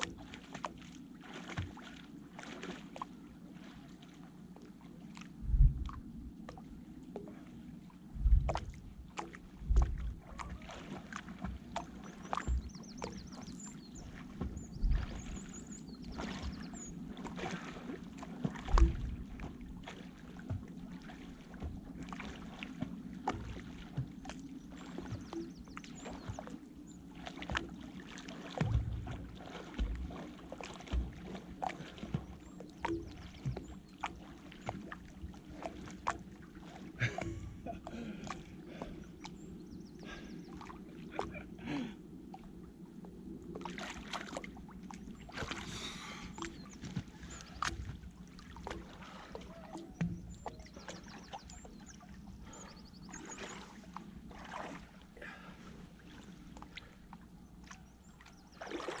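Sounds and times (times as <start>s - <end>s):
water splashing from swimming: 0.0s - 7.5s, 8.2s - 42.6s, 43.2s - 59.0s.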